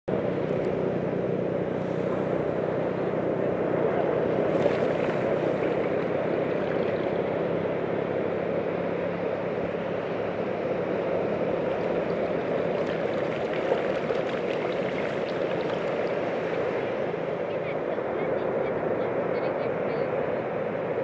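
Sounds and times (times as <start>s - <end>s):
waves breaking on beach: 1.6s - 21.0s.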